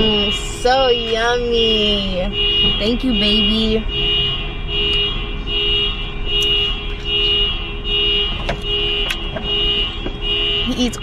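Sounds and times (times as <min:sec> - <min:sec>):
car alarm pulsing: 0:00.0 - 0:11.0.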